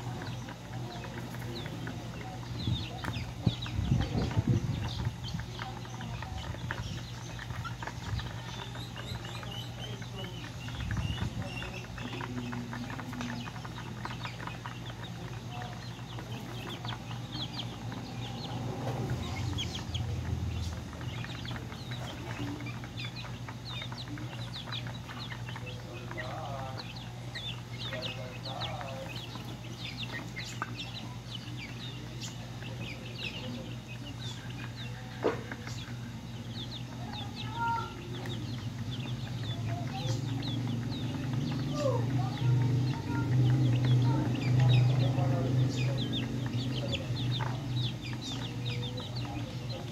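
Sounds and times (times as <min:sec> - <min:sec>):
chicks peeping: 0:00.0 - 0:49.9
steady low hum: 0:00.0 - 0:49.9.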